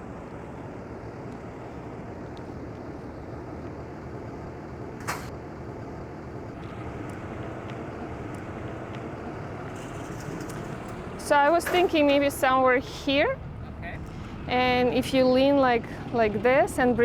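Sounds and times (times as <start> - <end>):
distant traffic: 0.0 - 17.0.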